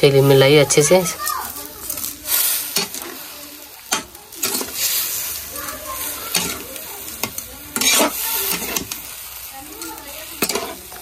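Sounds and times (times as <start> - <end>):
milk sizzling on hot pan: 0.0 - 11.0
metal spatula scraping pan: 1.8 - 11.0.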